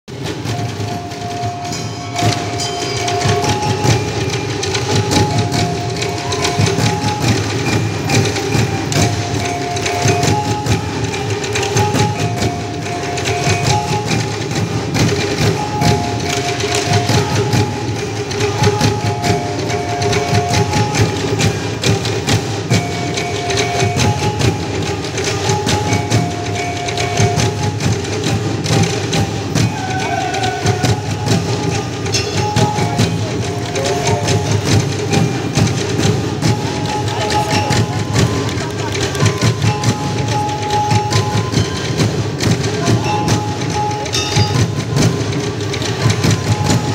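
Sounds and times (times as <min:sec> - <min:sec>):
fast percussion strokes: 0:00.1 - 0:46.9
held higher notes: 0:00.1 - 0:46.9
low drum beats: 0:00.1 - 0:46.9.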